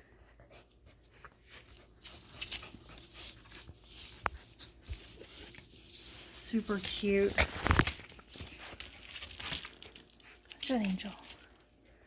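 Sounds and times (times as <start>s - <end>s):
puppies rustling and clicking: 0.0s - 12.0s.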